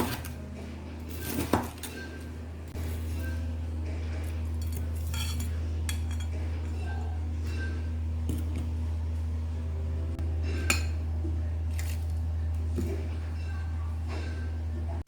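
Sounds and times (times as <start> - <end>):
dishes and utensils clinking: 0.0 - 8.9, 10.4 - 15.0
steady low hum: 0.0 - 15.0.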